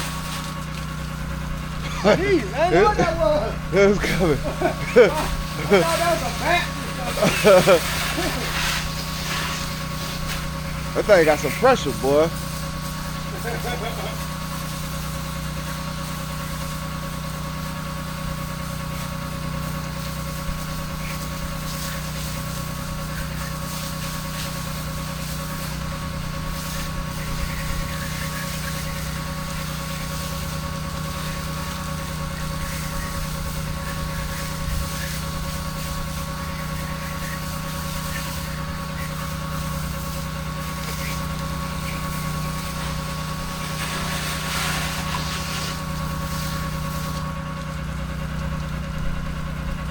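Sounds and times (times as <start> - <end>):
water spray hiss: 0.0 - 48.2
pressure washer engine droning: 0.0 - 49.9.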